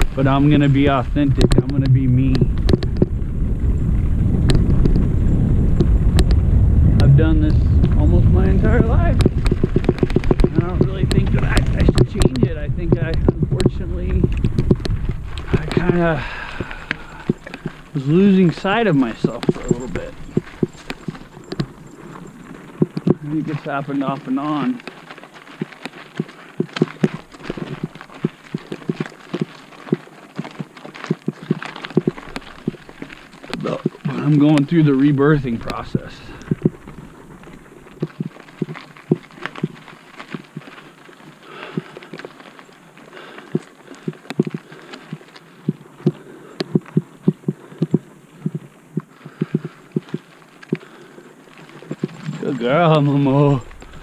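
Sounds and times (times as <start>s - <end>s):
bike tyres knocking on stones: 0.0s - 6.5s, 7.8s - 51.0s
tyres crunching on gravel: 0.0s - 54.0s.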